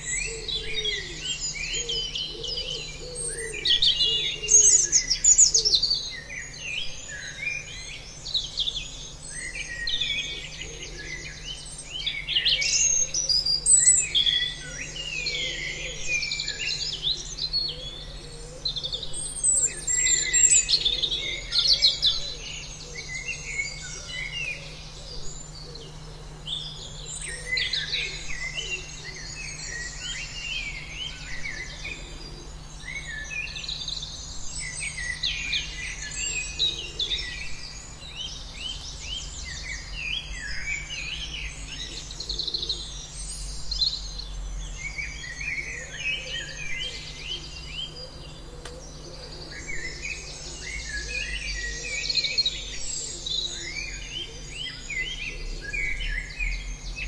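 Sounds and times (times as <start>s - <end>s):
chorus of birds calling: 0.0s - 57.0s.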